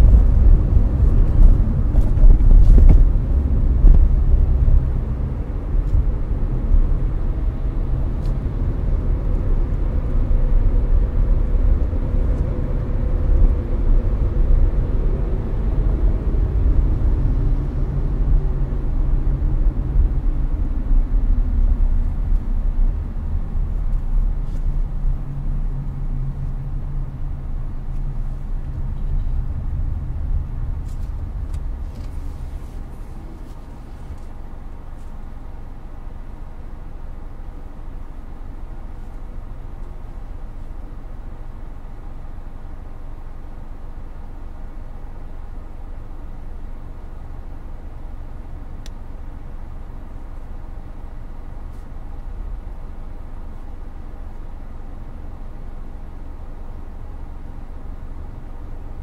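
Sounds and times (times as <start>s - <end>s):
air-conditioning fan blowing: 0.0s - 59.0s
road and engine rumble: 0.0s - 59.0s.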